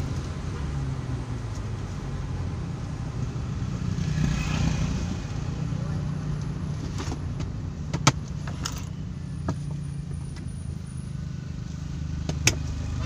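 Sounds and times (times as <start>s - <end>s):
engine and road drone: 0.0s - 13.0s.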